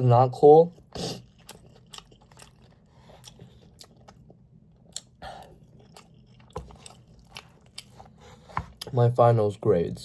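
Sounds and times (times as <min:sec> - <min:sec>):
person chewing with mouth clicks: 0:00.7 - 0:08.9.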